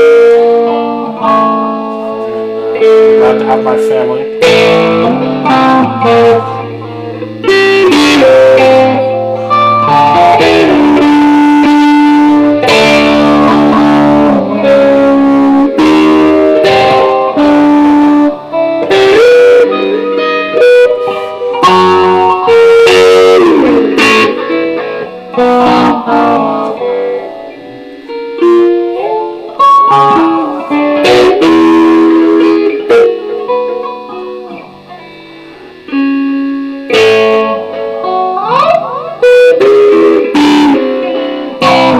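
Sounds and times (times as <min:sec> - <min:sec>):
electric guitar playing: 0:00.0 - 0:41.9.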